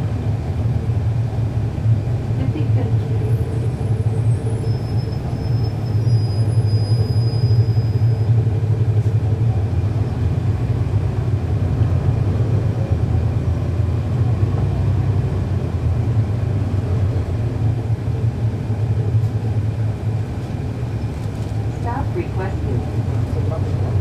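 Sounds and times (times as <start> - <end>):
bus diesel engine rumble: 0.0 - 24.0.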